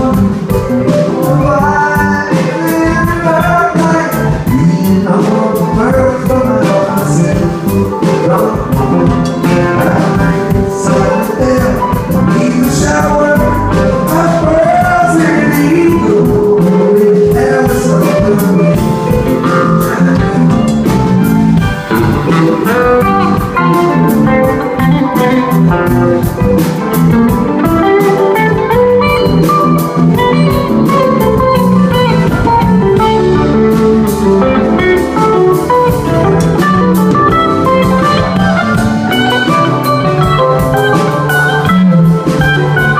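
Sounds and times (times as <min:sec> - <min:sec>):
bass guitar: 0:00.0 - 0:42.9
drum kit: 0:00.0 - 0:42.9
electric guitar lead with bent notes: 0:00.0 - 0:42.9.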